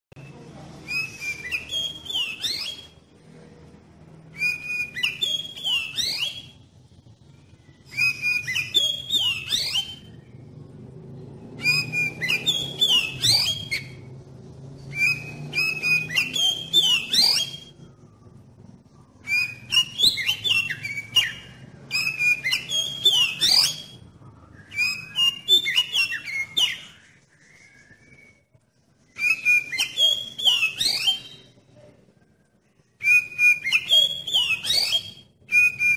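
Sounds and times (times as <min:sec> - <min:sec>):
bird singing whistled phrases: 0:00.2 - 0:03.1, 0:04.3 - 0:10.4, 0:11.5 - 0:14.1, 0:14.8 - 0:18.4, 0:19.0 - 0:31.6, 0:32.9 - 0:35.9.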